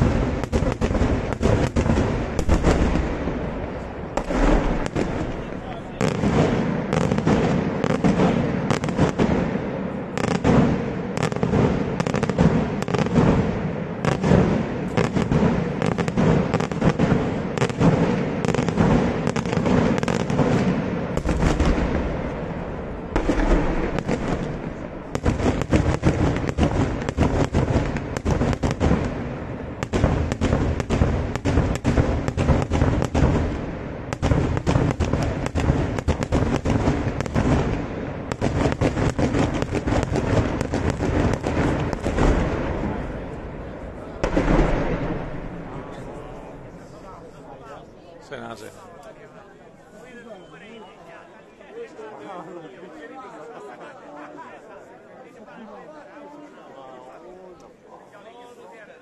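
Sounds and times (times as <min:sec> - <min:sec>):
fireworks bangs: 0:00.0 - 0:47.6.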